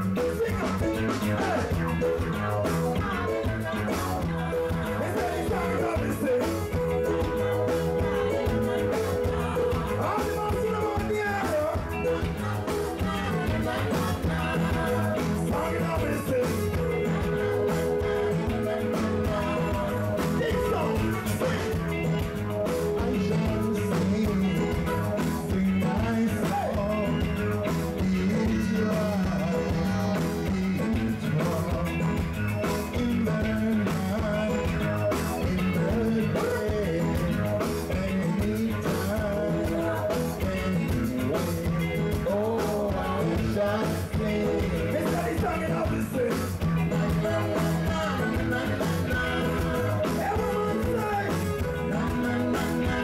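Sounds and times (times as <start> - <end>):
person singing: 0.0 - 53.0
reggae band playing: 0.0 - 53.0.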